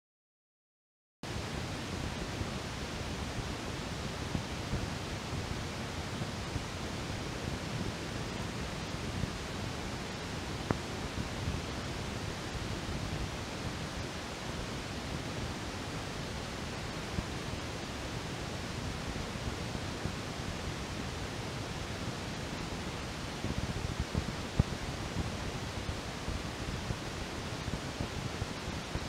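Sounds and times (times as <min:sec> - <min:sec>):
steady background hiss: 0:01.3 - 0:29.0.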